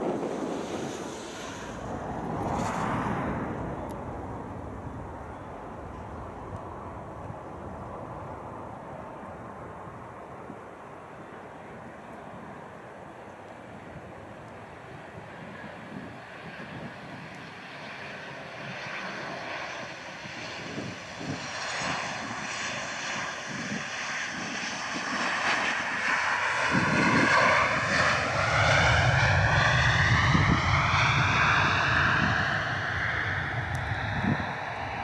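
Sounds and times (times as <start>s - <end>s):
engine whine: 0.0s - 10.6s, 14.4s - 35.0s
jet engines landing: 0.0s - 35.0s.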